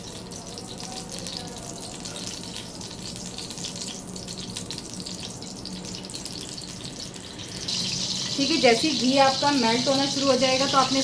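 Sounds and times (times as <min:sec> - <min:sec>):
ghee sizzling in hot pot: 0:00.0 - 0:11.0.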